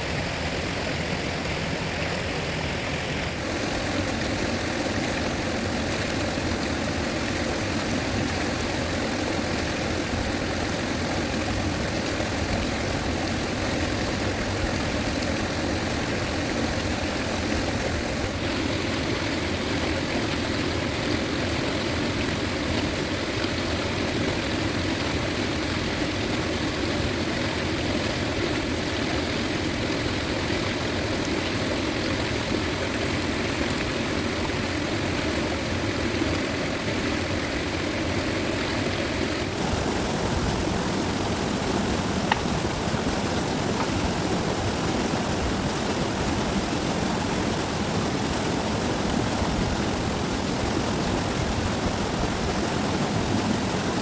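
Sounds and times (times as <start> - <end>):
river rushing roar: 0.0 - 54.0.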